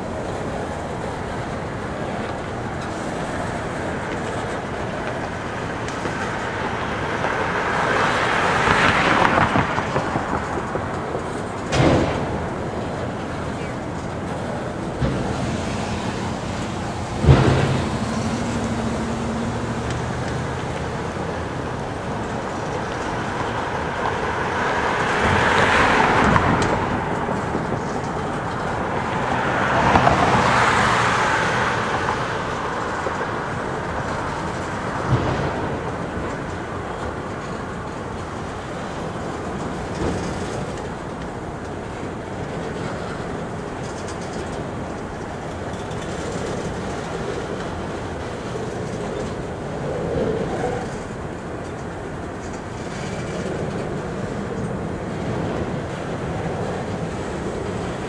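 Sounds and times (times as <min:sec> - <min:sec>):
freight train cars rattling: 0:00.0 - 0:58.0.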